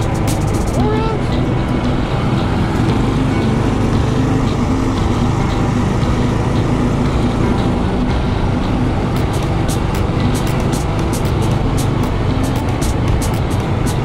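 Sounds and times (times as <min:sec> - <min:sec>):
minibike engine running: 0:00.0 - 0:14.0.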